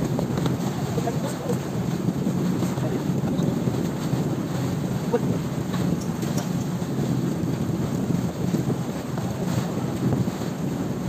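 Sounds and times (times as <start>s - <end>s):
boat engine rumble: 0.0s - 11.0s
water rushing past hull: 0.0s - 11.0s
wind buffeting microphone: 0.0s - 11.0s.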